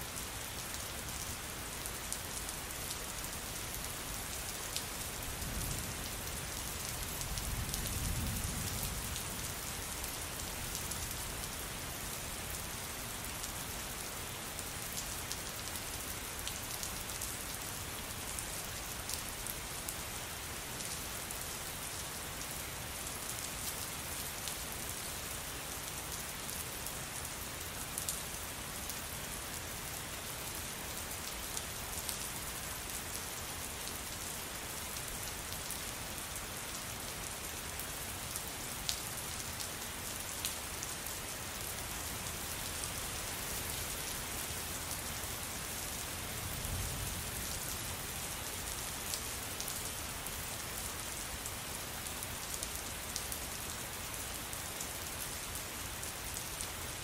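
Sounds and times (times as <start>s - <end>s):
rain hiss on a surface: 0.0s - 57.0s.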